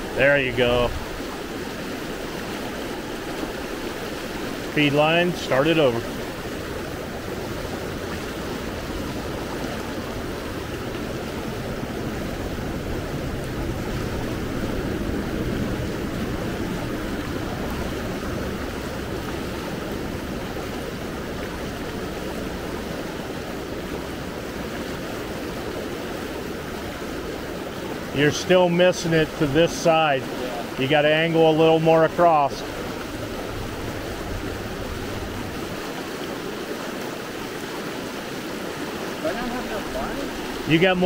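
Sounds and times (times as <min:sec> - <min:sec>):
river current rushing: 0:00.0 - 0:41.0.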